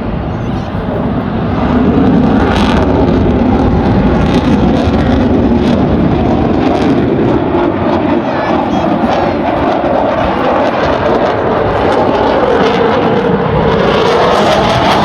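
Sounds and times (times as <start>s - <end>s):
fighter jet roaring past: 0.0s - 15.0s.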